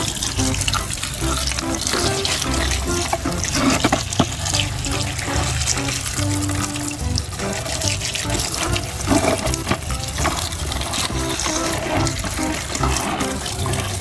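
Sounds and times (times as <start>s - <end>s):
background music with bass line: 0.0s - 14.0s
running water splashing: 0.0s - 14.0s.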